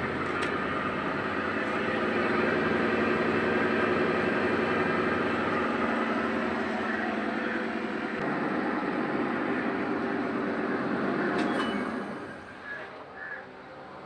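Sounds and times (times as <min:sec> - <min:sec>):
washing machine humming and rumbling: 0:00.0 - 0:13.2.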